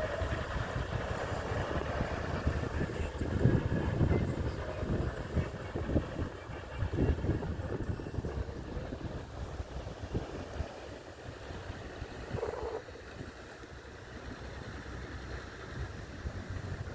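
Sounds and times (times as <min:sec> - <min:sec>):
wind buffeting microphone: 0:00.0 - 0:13.4, 0:14.2 - 0:16.9
boat engine running: 0:00.0 - 0:16.9.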